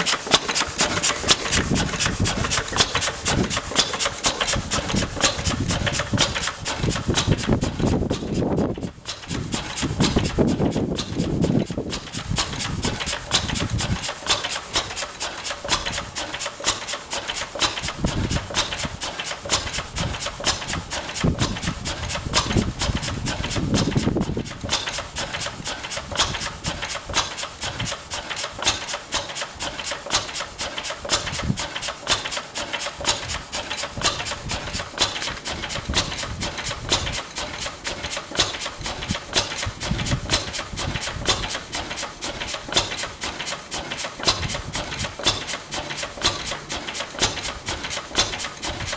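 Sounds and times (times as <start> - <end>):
stationary engine running: 0.0 - 48.9.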